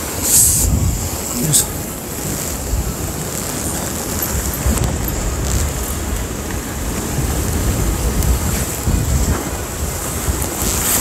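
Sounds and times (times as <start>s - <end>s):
surf on rocky shore: 0.0s - 11.0s
wind on microphone: 0.0s - 11.0s.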